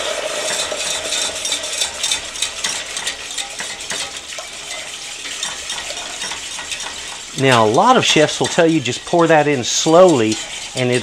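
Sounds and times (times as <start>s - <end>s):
cream pouring: 0.0s - 11.0s
wire whisk clicking against saucepan: 0.5s - 11.0s.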